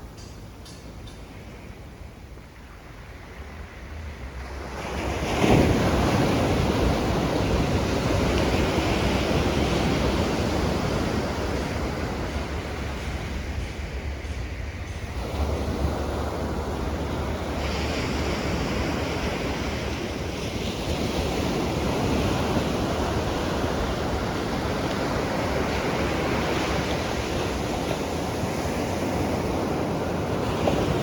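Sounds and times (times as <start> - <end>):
wind buffeting microphone: 0.0 - 31.0
waves breaking on shore: 2.5 - 31.0.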